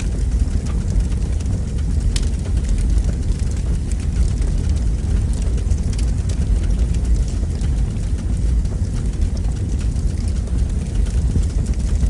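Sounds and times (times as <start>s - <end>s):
fire roaring and crackling: 0.0s - 12.0s.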